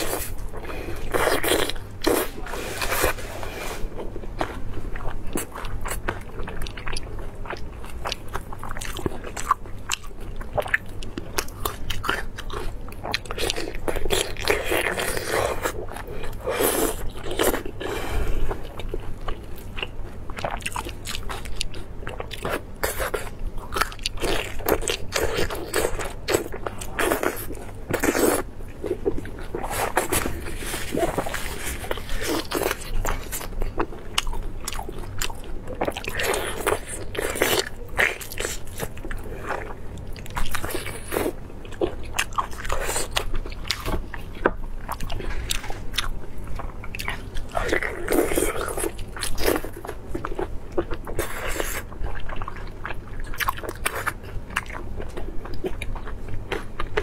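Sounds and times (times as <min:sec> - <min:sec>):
chewing and biting sausage: 0:04.0 - 0:57.0.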